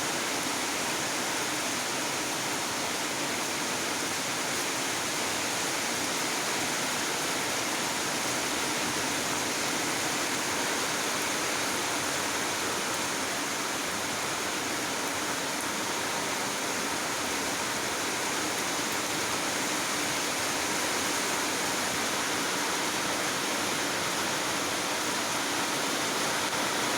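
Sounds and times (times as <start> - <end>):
rain falling: 0.1 - 26.9.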